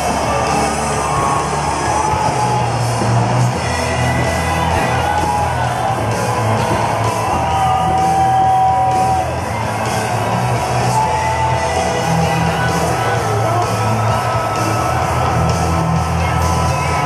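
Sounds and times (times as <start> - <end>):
steady bass line: 0.0 - 17.0.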